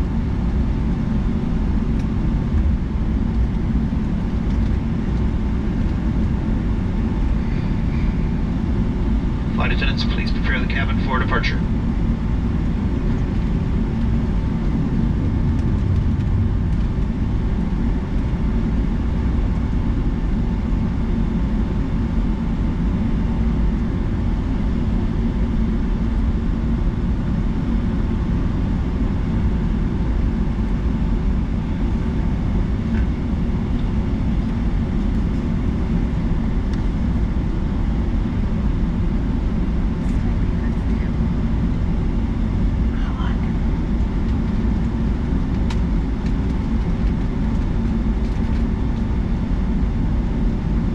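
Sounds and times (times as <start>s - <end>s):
faint steady whine: 0.0s - 50.9s
jet engine and airflow rumble: 0.0s - 50.9s.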